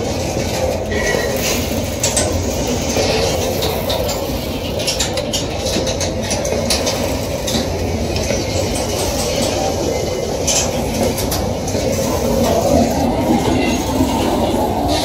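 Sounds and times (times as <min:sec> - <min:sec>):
steel wheels rumbling on rail: 0:00.0 - 0:15.0
wheels clacking over rail joints: 0:00.0 - 0:15.0.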